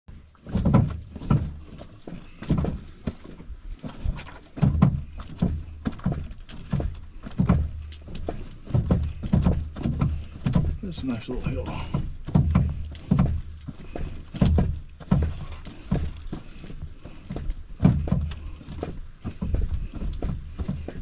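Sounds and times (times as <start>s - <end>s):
canoe hull thumping: 0.1s - 21.0s
footsteps on dirt trail: 0.3s - 21.0s.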